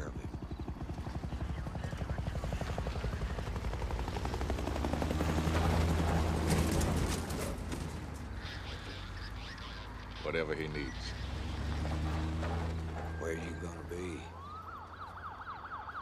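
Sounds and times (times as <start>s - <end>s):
helicopter rotor chop: 0.0s - 14.6s.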